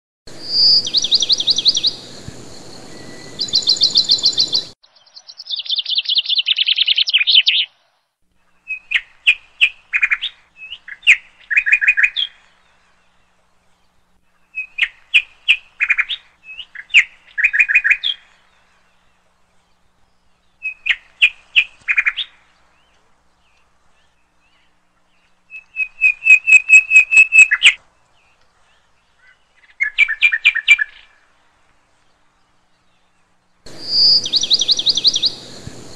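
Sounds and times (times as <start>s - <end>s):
bird chirps and trills: 0.3s - 7.7s, 8.5s - 31.3s, 32.2s - 35.9s.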